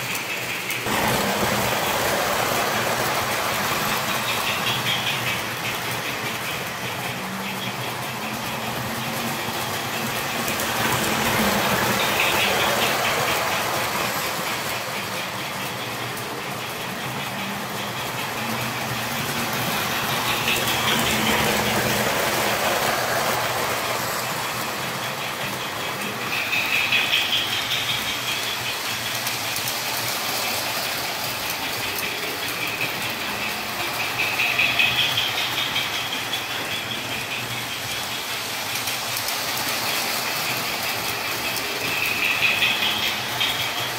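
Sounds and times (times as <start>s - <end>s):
toy trains rumbling on track: 0.0s - 43.9s.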